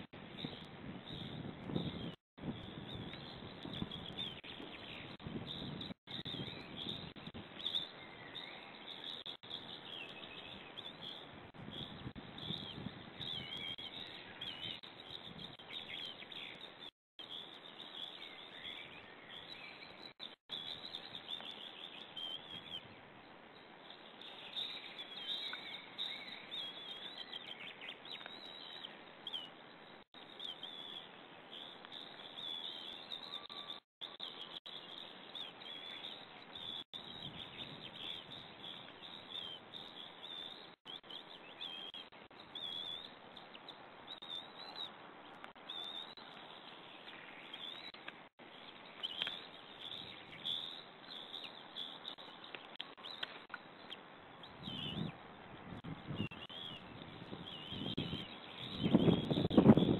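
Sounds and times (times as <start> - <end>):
bird chirps and calls: 0.4 - 23.0, 23.6 - 55.2, 55.8 - 59.9.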